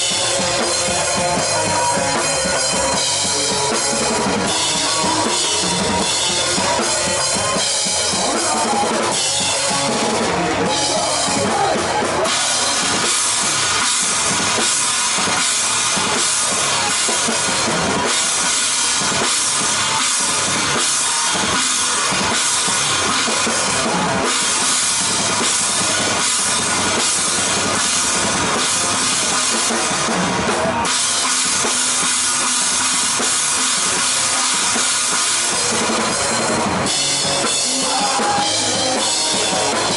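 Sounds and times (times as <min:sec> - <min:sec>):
rock drum kit: 0:00.0 - 0:39.9.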